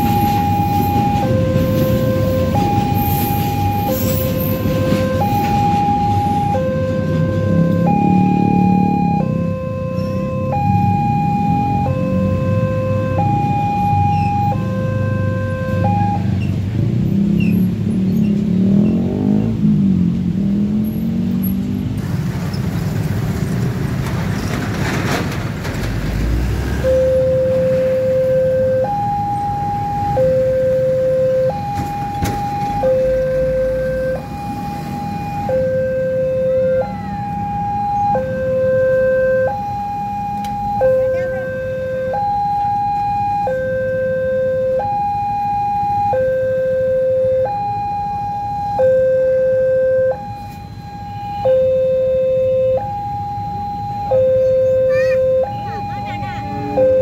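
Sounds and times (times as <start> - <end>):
two-tone crossing alarm: 0.0 - 16.6, 26.8 - 57.0
motorbikes: 0.0 - 57.0
road traffic: 0.0 - 57.0.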